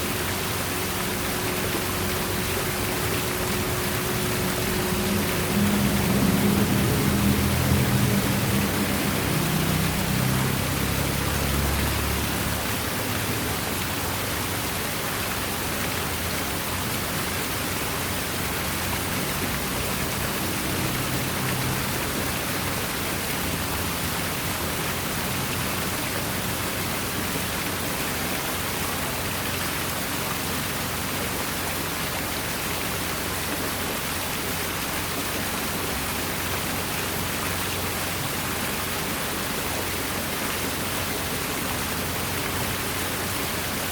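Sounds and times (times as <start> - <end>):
water splashing over waterfall: 0.0 - 43.9.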